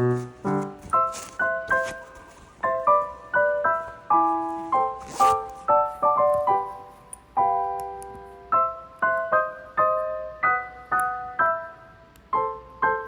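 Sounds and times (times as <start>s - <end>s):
gentle solo piano: 0.0s - 13.0s.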